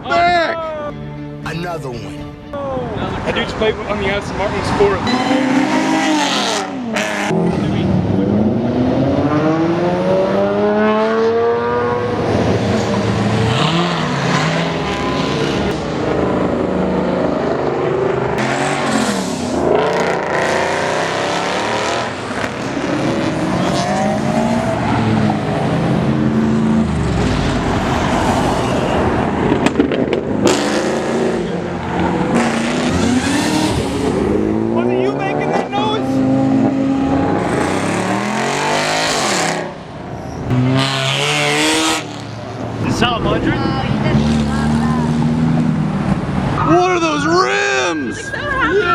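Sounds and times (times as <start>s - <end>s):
cars accelerating past: 3.1s - 48.9s.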